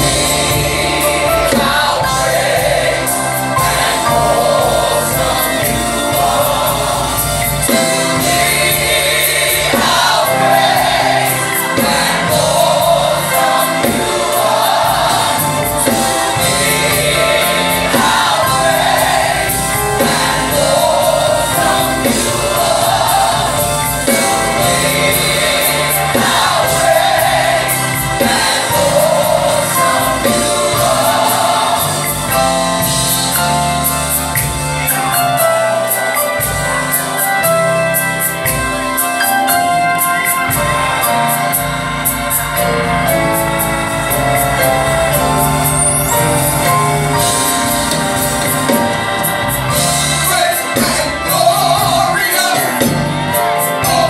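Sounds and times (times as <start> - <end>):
band with bass and cymbals: 0.0 - 54.0
gospel choir singing: 0.0 - 54.0.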